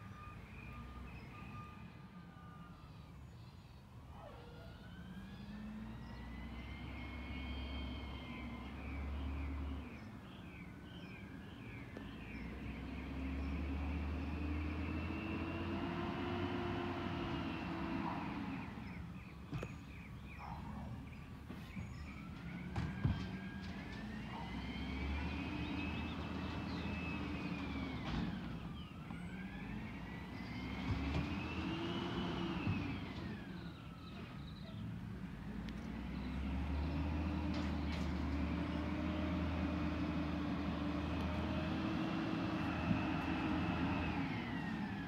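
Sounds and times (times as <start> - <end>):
diesel engine revving: 5.0 - 10.4, 12.0 - 45.0.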